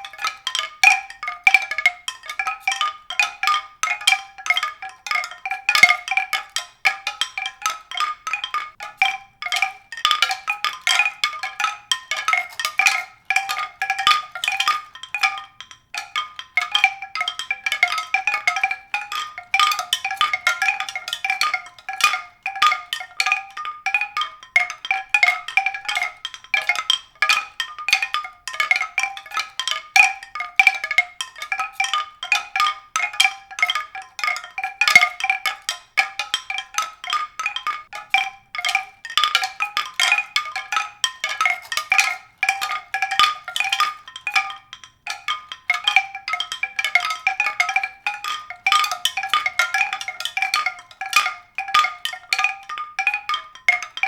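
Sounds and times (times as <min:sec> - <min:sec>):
mallet percussion tones: 0:00.0 - 0:54.0.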